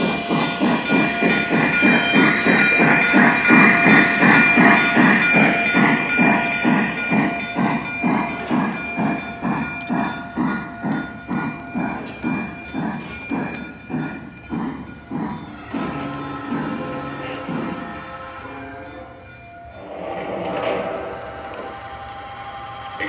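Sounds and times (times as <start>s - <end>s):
model steam locomotive chuffing: 0.0s - 23.0s.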